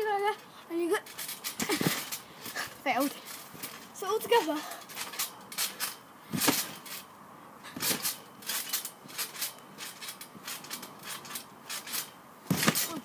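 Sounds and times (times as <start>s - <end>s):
trampoline thudding and rattling: 0.0s - 13.0s.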